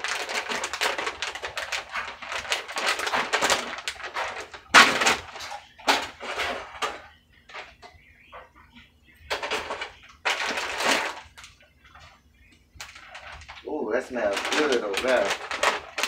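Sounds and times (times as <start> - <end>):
plastic food packet crinkling: 0.0 - 7.0, 9.3 - 16.0.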